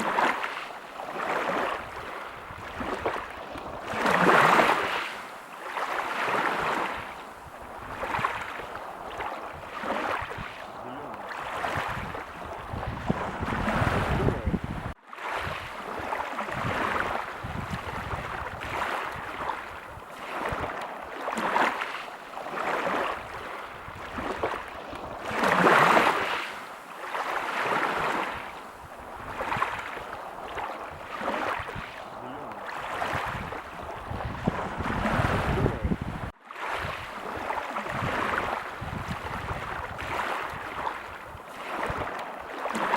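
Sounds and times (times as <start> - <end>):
surf washing on a beach: 0.0 - 42.9.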